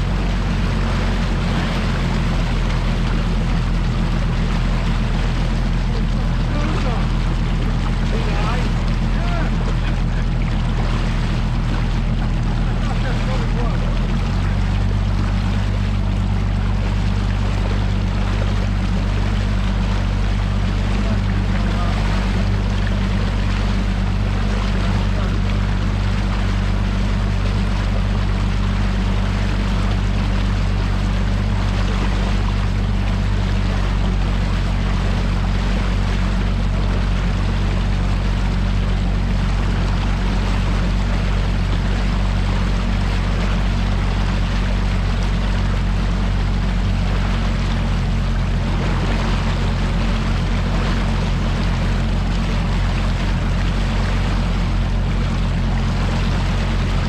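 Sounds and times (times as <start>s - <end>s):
outboard motor running: 0.0s - 57.0s
water rushing past hull: 0.0s - 57.0s.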